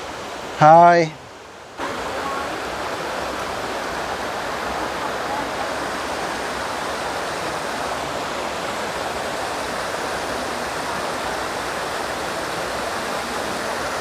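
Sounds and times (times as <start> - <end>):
stream rushing down cascade: 0.0 - 14.0.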